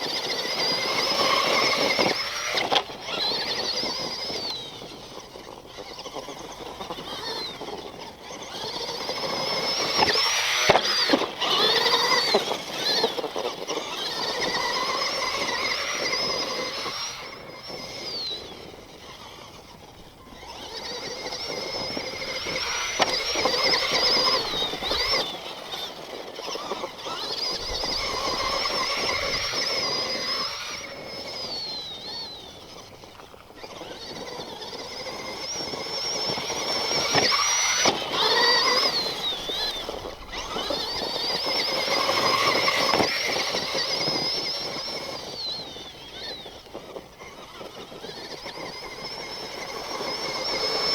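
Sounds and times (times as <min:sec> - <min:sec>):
rc truck motor whining: 0:00.0 - 0:50.9.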